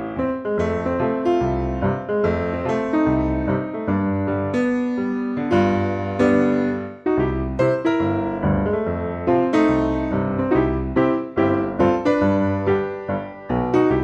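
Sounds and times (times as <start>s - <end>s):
upbeat piano tune with bass: 0.0s - 14.0s.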